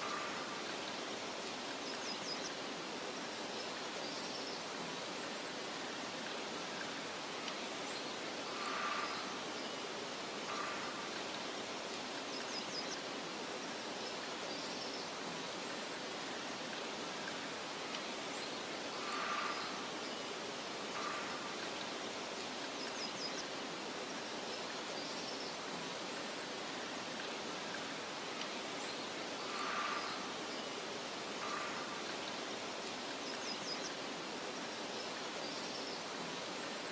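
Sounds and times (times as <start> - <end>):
soft wind hiss: 0.0 - 36.9.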